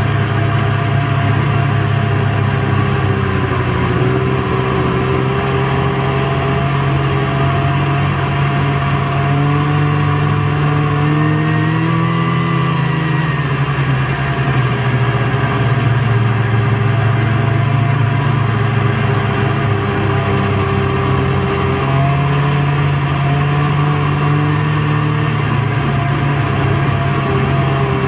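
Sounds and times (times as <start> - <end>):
snowmobile engine droning: 0.0 - 28.0.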